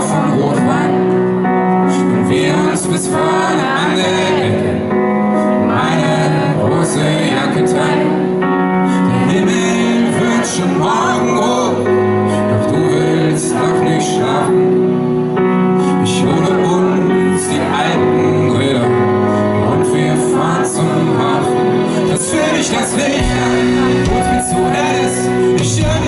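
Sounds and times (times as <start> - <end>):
live pop rock band: 0.0 - 26.0
man singing into microphone: 0.0 - 26.0.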